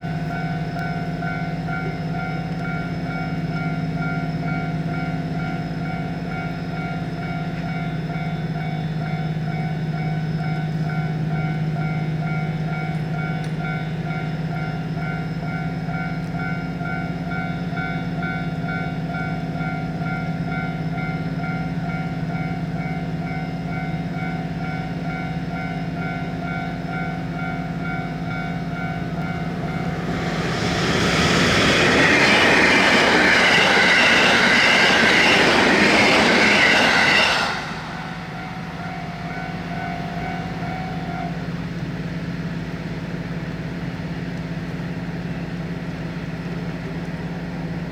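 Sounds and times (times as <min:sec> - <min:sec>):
train passing: 0:00.0 - 0:47.9.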